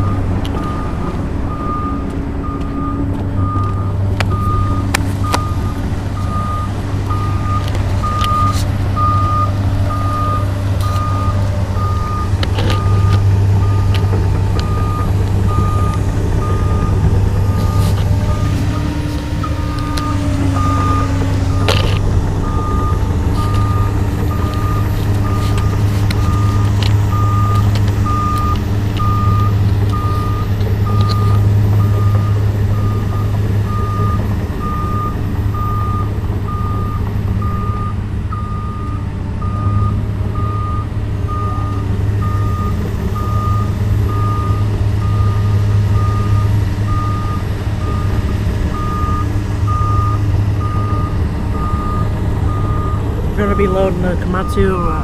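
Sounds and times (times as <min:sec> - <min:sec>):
excavator diesel engine running: 0:00.0 - 0:55.0
travel alarm beeping: 0:00.0 - 0:55.0.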